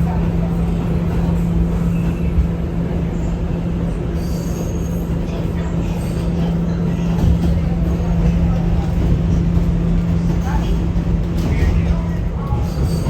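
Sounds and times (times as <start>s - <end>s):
subway wheels rumbling on rail: 0.0s - 13.0s.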